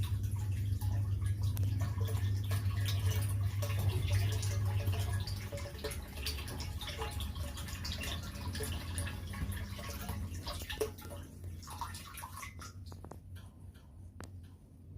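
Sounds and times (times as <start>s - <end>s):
water pouring into a tank: 0.0s - 13.2s
electric water pump hum: 0.0s - 14.9s.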